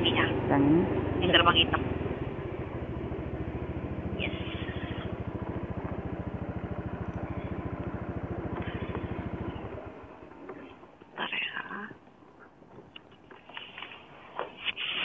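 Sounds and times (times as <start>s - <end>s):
motorbike engine idling: 0.0s - 14.3s.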